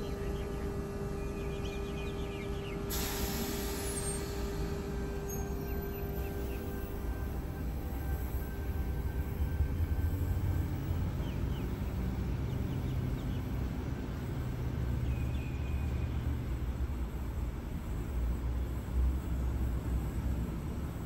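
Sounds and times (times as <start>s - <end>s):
electric train rumbling away: 0.0s - 21.0s.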